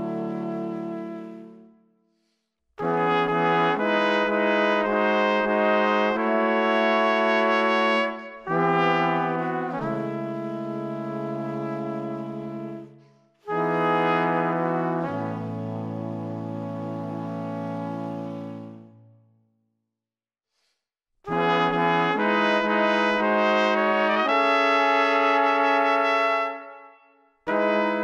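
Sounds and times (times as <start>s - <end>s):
brass melody music: 0.0s - 1.8s, 2.8s - 19.2s, 21.3s - 28.0s.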